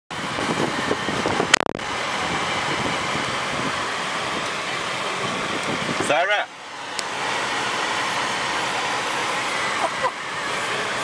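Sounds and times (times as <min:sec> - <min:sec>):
water spray rushing: 0:00.2 - 0:11.0.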